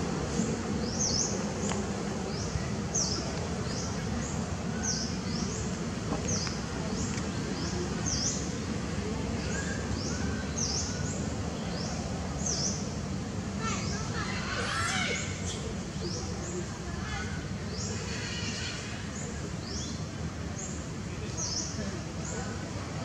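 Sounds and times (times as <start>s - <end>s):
steady low background noise: 0.0s - 23.0s
birds chirping: 0.1s - 23.0s.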